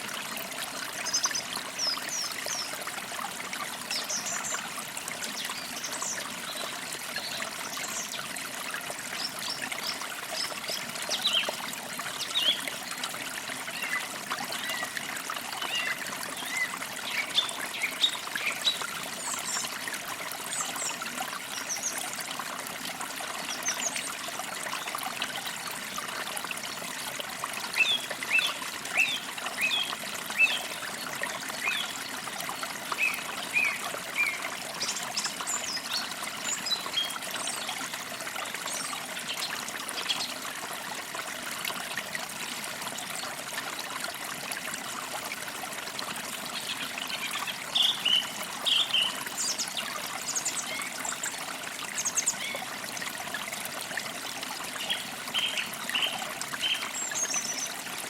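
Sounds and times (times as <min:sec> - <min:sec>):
creek trickling: 0:00.0 - 0:58.0.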